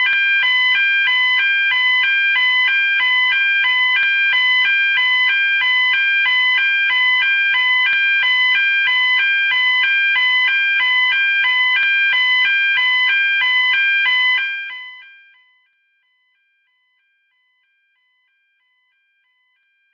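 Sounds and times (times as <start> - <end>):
two-tone fire alarm sounder: 0.0 - 19.9.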